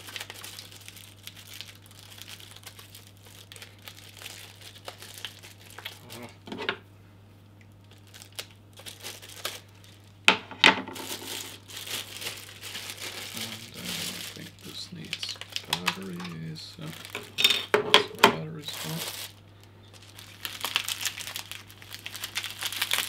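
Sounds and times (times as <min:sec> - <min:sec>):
plastic bag crinkling: 0:00.0 - 0:06.4, 0:07.7 - 0:10.2, 0:10.8 - 0:23.0.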